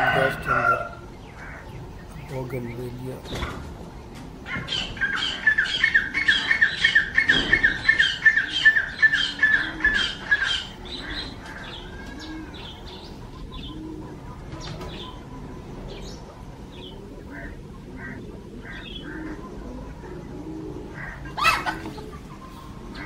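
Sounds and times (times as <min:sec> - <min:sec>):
bird repeated calls: 0:00.0 - 0:23.0.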